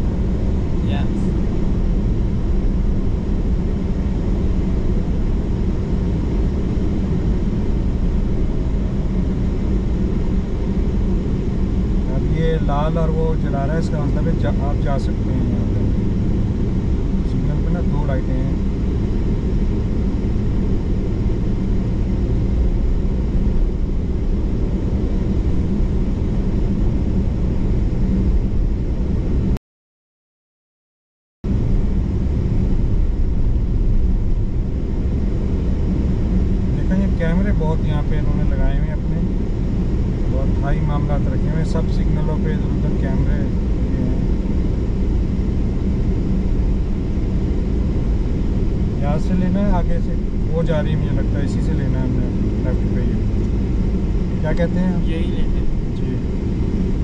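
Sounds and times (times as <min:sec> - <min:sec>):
car engine and road noise: 0:00.0 - 0:29.6, 0:31.5 - 0:57.0.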